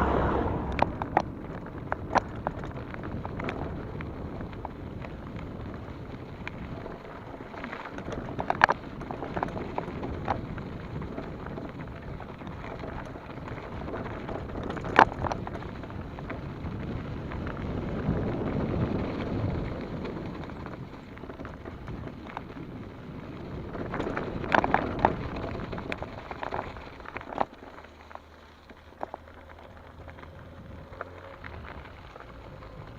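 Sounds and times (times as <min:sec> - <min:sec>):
wind on microphone: 0:00.0 - 0:27.4
bike rattling over bumps: 0:00.0 - 0:32.9
bike tyres on dirt trail: 0:00.0 - 0:32.9.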